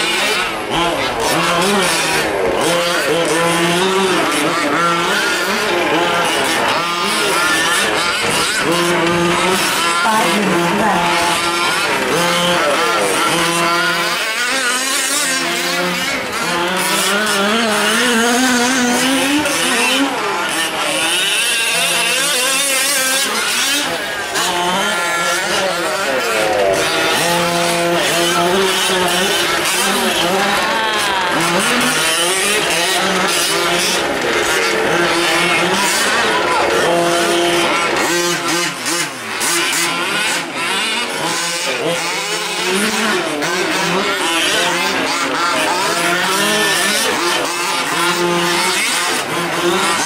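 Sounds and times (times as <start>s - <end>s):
small two-stroke engines revving: 0.0s - 50.0s.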